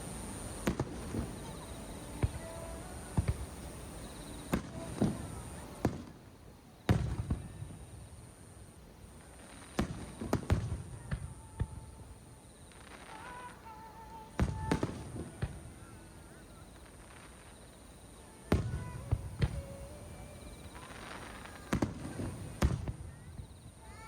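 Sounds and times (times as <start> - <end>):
fireworks booming and cracking: 0.0 - 24.0.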